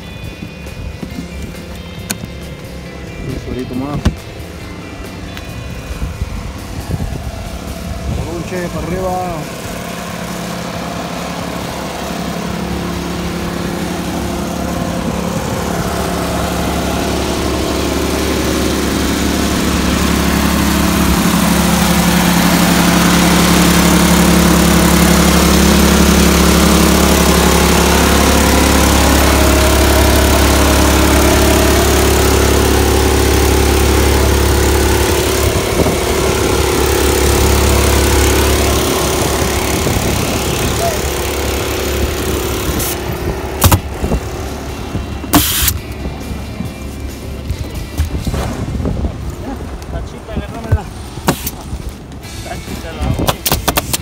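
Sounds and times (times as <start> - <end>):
air compressor running: 0.0 - 54.0.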